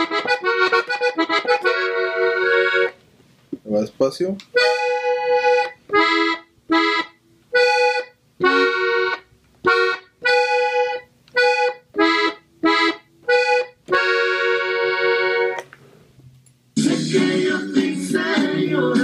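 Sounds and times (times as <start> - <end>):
accordion chords: 0.0 - 3.0, 4.5 - 15.6, 16.8 - 19.0.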